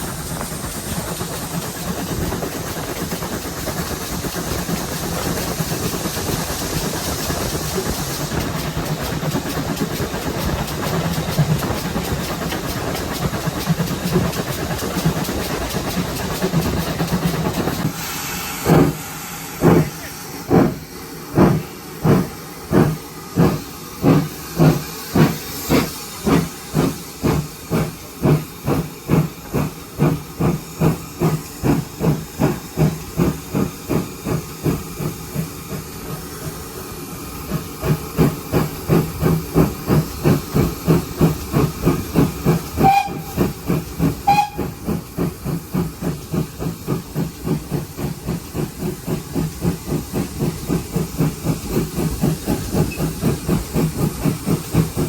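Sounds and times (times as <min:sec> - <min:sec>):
steam hiss: 0:00.0 - 0:55.0
steam locomotive exhaust beats: 0:00.0 - 0:55.0.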